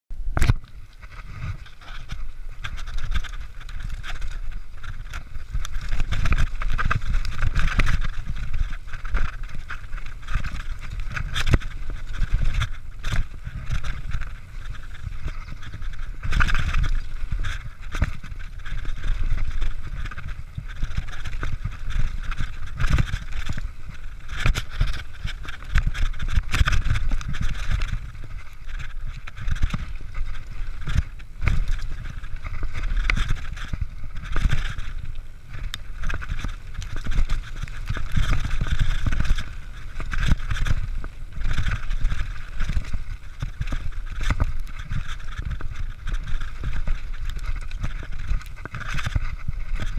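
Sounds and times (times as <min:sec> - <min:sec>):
bike rattling and knocking: 0:00.1 - 0:49.9
wind buffeting microphone: 0:00.1 - 0:49.9
tyre noise on dirt: 0:00.2 - 0:49.9.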